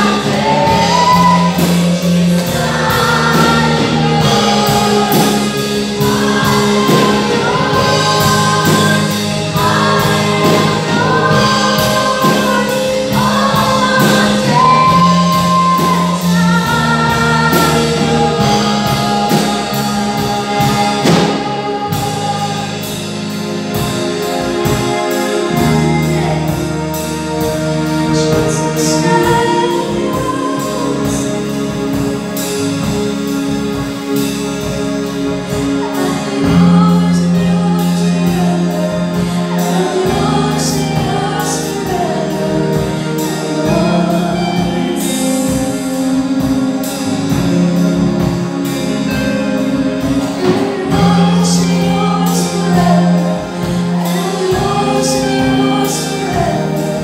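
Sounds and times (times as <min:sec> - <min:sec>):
group of singers: 0:00.0 - 0:57.0
worship band playing: 0:00.0 - 0:57.0.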